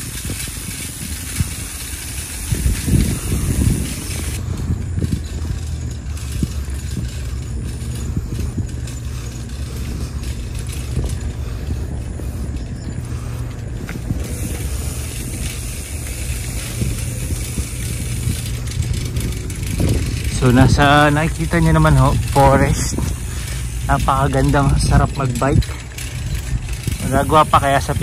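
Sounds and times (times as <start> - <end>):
bicycle rattling and clicking: 0.0 - 28.0
wind rumble on microphone: 0.0 - 28.0.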